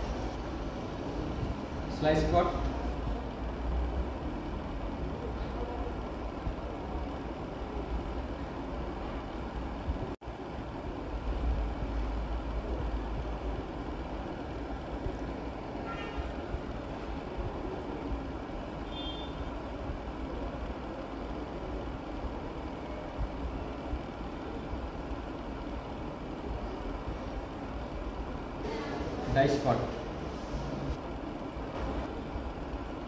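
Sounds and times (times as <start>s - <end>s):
rumbling machine noise: 0.0s - 33.0s.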